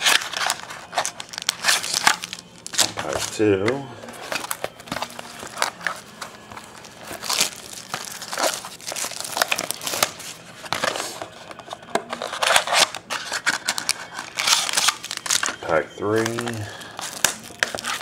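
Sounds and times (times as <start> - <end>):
foil packs crinkling: 0.0 - 18.0.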